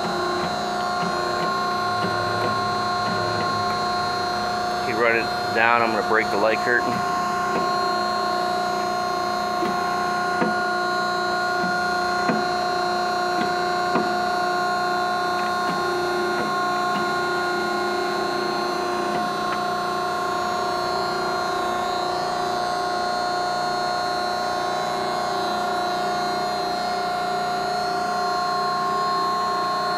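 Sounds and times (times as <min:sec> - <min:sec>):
hydraulic pump humming and whining: 0:00.0 - 0:29.9.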